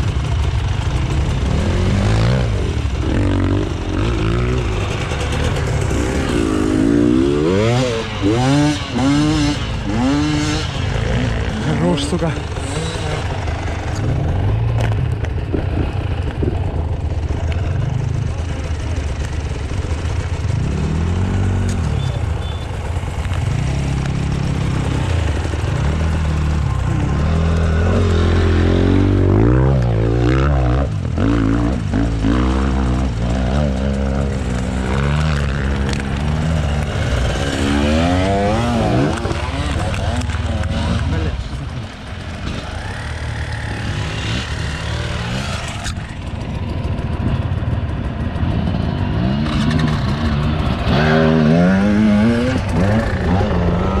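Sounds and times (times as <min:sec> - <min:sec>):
dirt bike engine revving: 0:00.0 - 0:18.9, 0:19.6 - 0:54.0.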